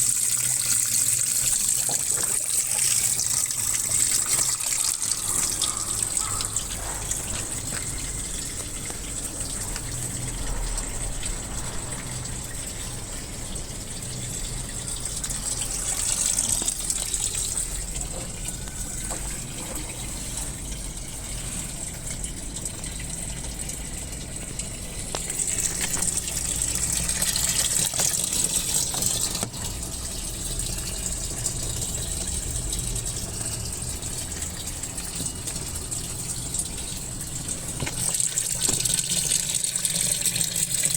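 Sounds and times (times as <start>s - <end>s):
water pouring into washing machine: 0.0s - 40.9s.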